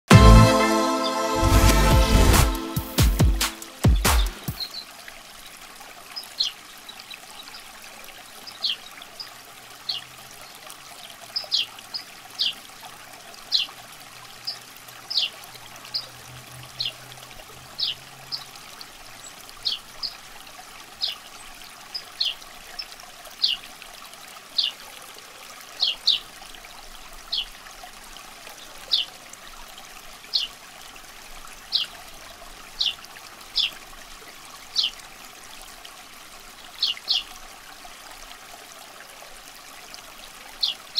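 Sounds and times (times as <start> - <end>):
faint water trickle: 4.6 - 40.9.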